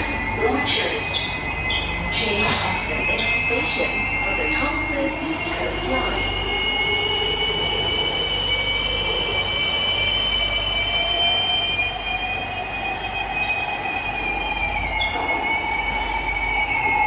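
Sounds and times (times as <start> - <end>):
low rumble of train running: 0.0 - 17.0
train wheels squealing: 0.0 - 17.0.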